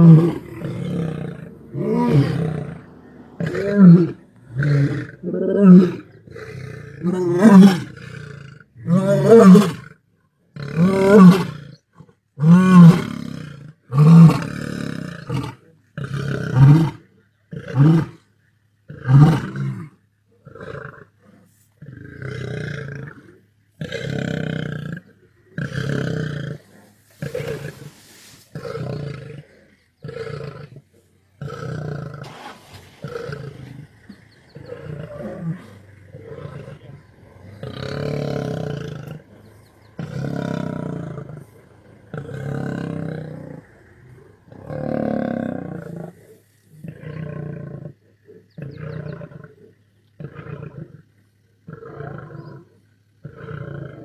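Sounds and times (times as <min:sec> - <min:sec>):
lion grunting: 0:00.0 - 0:09.9, 0:18.8 - 0:54.0
lion roaring: 0:00.0 - 0:11.8, 0:12.4 - 0:18.2, 0:18.9 - 0:54.0.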